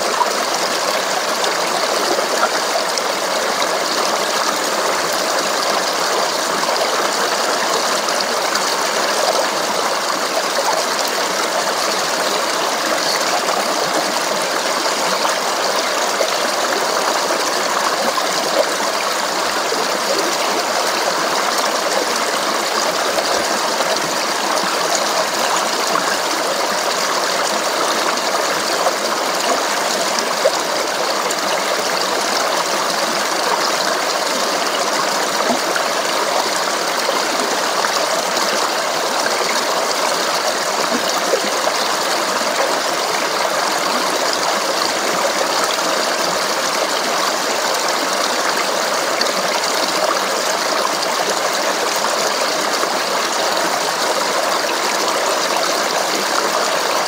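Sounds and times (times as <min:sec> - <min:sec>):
stream of water babbling: 0:00.0 - 0:57.0.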